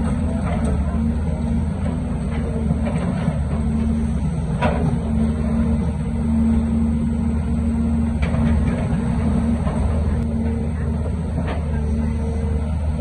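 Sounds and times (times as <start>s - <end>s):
heavy diesel engine under load: 0.0s - 13.0s.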